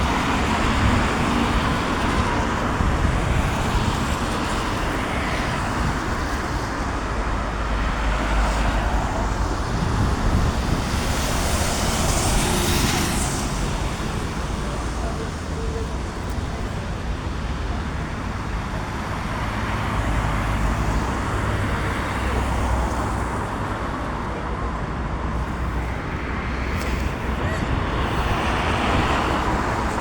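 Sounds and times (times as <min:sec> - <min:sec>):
rumble of traffic engines: 0:00.0 - 0:30.0
vehicles passing: 0:00.0 - 0:30.0.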